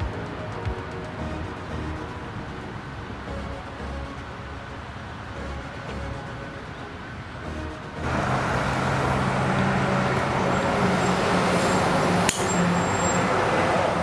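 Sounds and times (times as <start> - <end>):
heavy truck engine running: 0.0 - 14.0
road traffic: 0.0 - 14.0.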